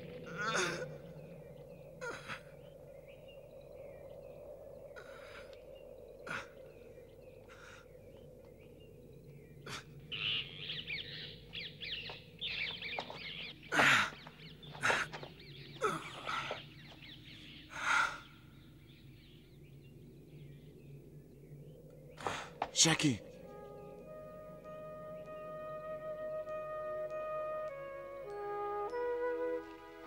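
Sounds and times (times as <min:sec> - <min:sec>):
low background drone: 0:00.0 - 0:30.0.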